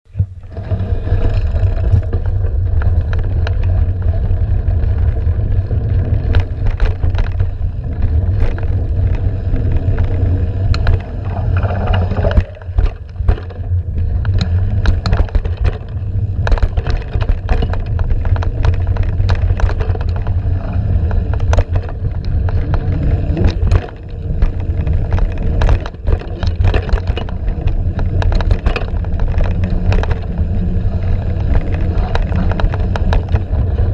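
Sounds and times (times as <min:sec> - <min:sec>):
bike rattling over rough ground: 0:00.1 - 0:33.9
wind buffeting microphone: 0:00.1 - 0:33.9.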